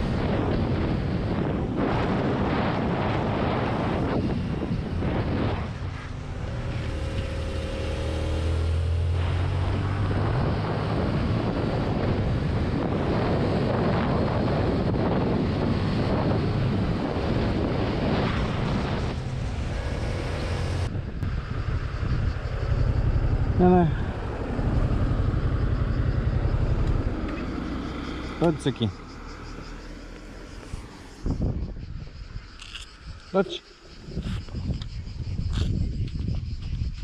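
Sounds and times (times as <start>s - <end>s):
motorcycle engine drone: 0.0s - 37.0s
wind rushing over microphone: 0.0s - 37.0s.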